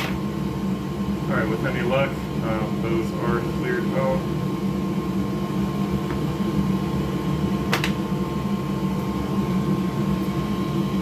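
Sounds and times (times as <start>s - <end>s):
bench machine fan whirring: 0.0s - 11.0s.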